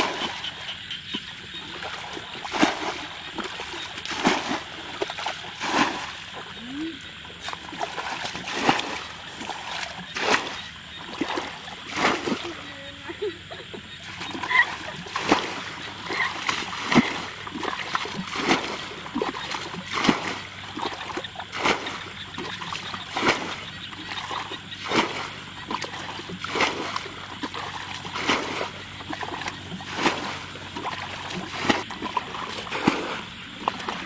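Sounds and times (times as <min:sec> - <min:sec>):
water splashing from bucket: 0:01.4 - 0:12.9, 0:14.0 - 0:34.0.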